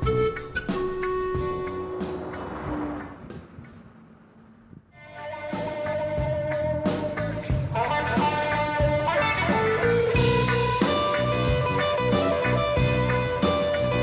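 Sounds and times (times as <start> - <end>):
plucked guitar music: 0.0 - 2.4, 5.0 - 14.0.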